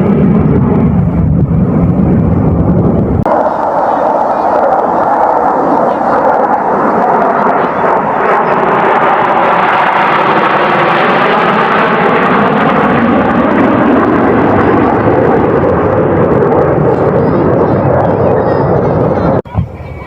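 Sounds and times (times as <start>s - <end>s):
jet passing low overhead: 0.0s - 20.0s.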